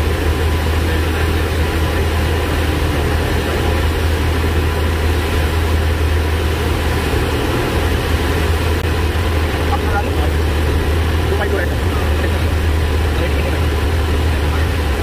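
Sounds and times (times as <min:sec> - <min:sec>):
propeller plane engine in cabin: 0:00.0 - 0:15.0
rushing air noise: 0:00.0 - 0:15.0.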